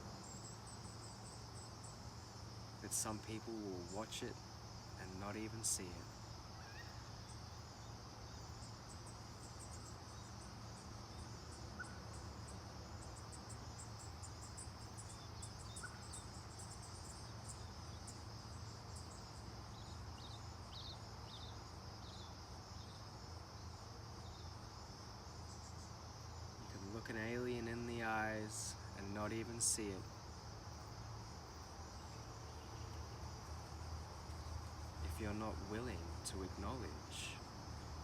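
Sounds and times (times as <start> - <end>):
insects trilling: 0.0 - 38.0
low insect chirps: 0.0 - 38.0.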